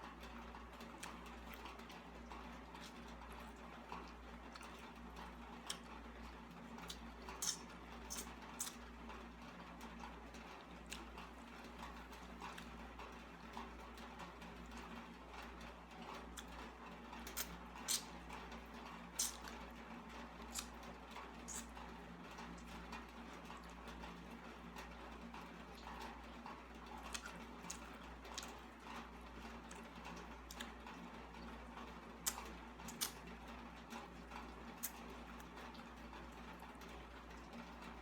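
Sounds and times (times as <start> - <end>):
chewing and wet mouth sounds: 0.3 - 38.0.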